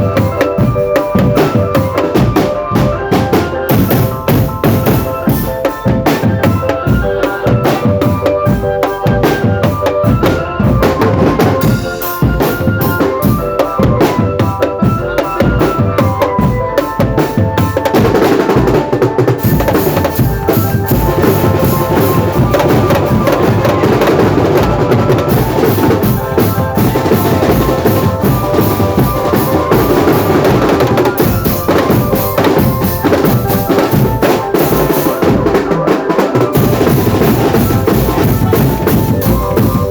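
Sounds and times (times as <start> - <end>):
bass and snare drums: 0.0 - 39.9
pitched melody line: 0.0 - 39.9.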